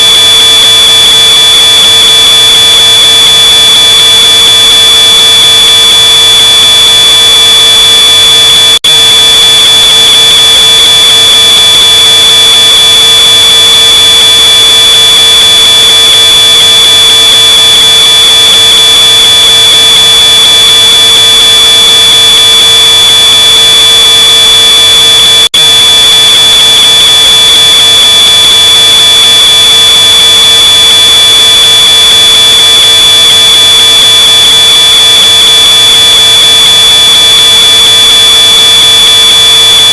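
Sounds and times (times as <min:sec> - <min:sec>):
distorted smoke alarm tone: 0:00.0 - 0:39.9.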